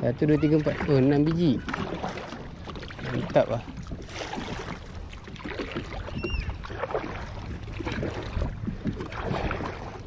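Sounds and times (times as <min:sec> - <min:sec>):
water sloshing along hull: 0:00.0 - 0:10.0
paddle splashing in water: 0:00.2 - 0:10.0.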